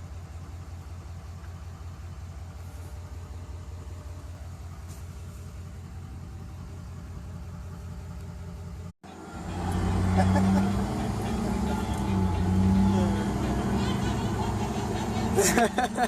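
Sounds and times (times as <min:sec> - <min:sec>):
pickup truck engine running: 0:00.0 - 0:16.0.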